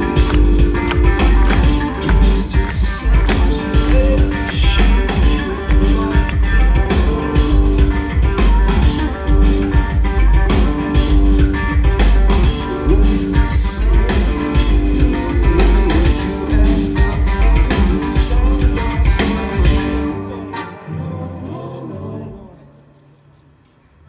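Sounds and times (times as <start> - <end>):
drums keeping a steady beat: 0.0 - 20.2
electric guitar: 0.0 - 22.8.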